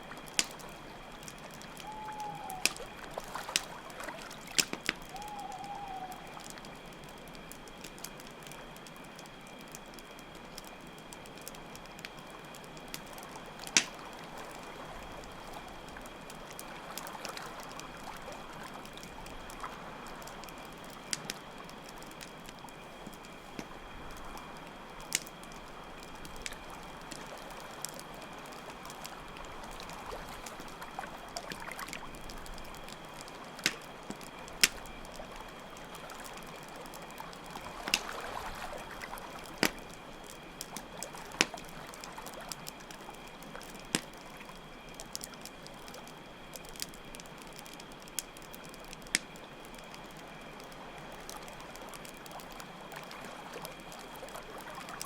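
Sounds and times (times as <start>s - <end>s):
campfire crackling and popping: 0.0s - 55.0s
crickets chirping: 0.0s - 55.0s.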